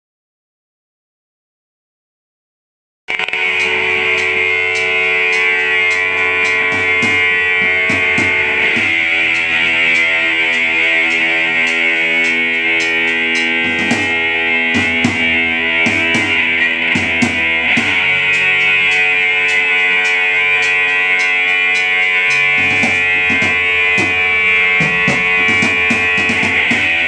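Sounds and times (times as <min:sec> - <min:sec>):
drum kit beat with cymbals: 0:03.1 - 0:27.0
sustained electric guitar chords: 0:03.1 - 0:27.0.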